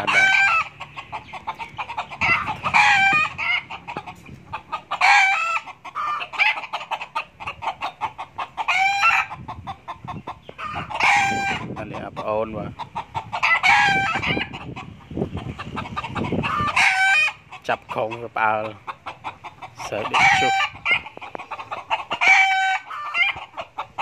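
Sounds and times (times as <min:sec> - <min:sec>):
rooster clucks: 0:00.0 - 0:24.0
roosters crowing: 0:00.0 - 0:24.0.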